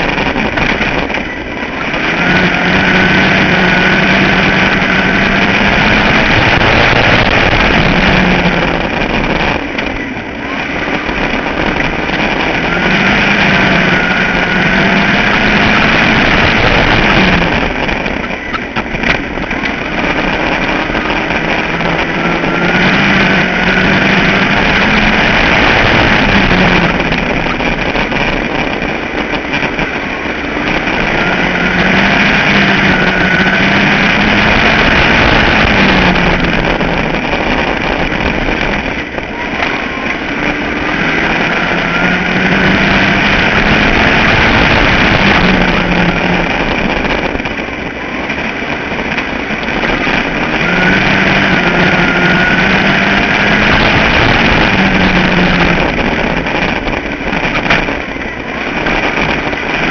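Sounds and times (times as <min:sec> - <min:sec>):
race car engine: 0:00.0 - 0:59.9
steady rushing noise: 0:00.0 - 0:59.9.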